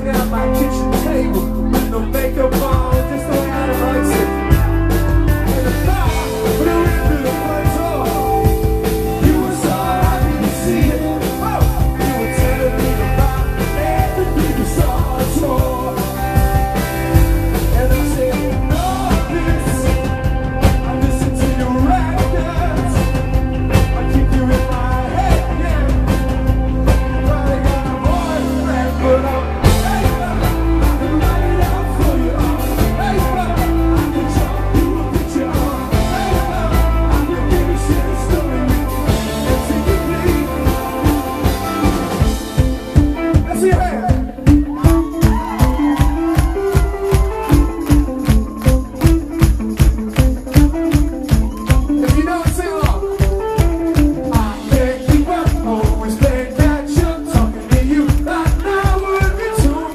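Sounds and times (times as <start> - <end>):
lead and backing vocals: 0.0 - 49.6, 51.3 - 59.9
rock band playing live: 0.0 - 59.9.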